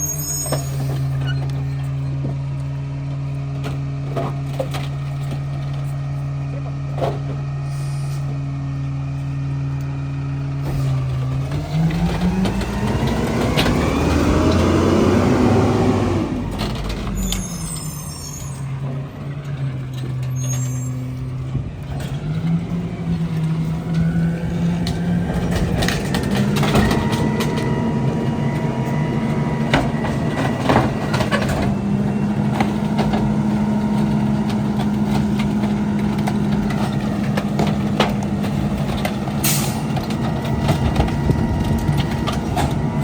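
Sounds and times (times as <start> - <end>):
garbage truck engine idling and revving: 0.0 - 43.0.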